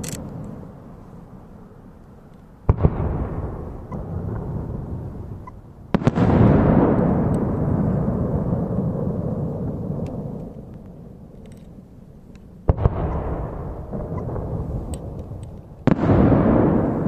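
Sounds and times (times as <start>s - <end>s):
rumbling echo: 2.7s - 12.0s, 12.6s - 17.0s.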